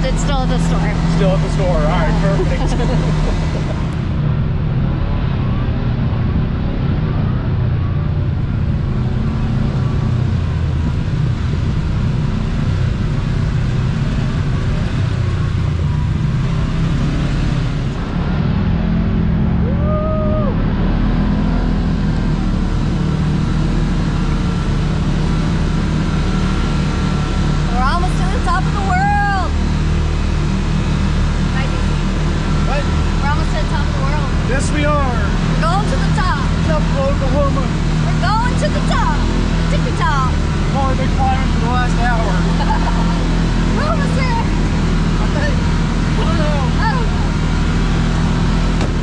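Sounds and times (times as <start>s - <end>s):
ride noise: 0.0s - 49.0s
vehicle engine droning: 0.0s - 49.0s.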